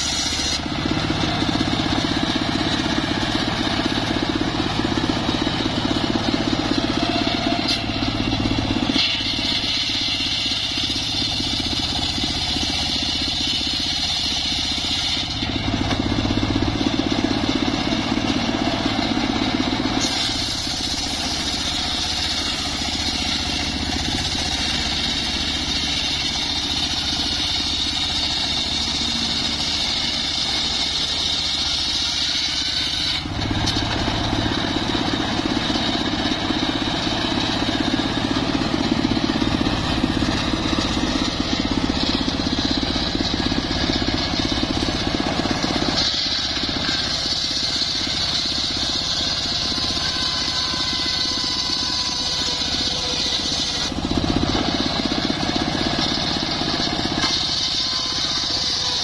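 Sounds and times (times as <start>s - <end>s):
circular saw ripping a log: 0.0s - 59.0s.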